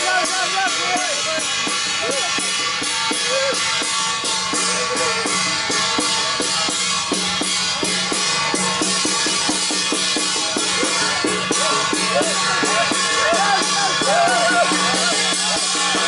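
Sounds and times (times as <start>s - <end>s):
cymbals ringing: 0.0s - 16.0s
fast drum strokes: 0.0s - 16.0s.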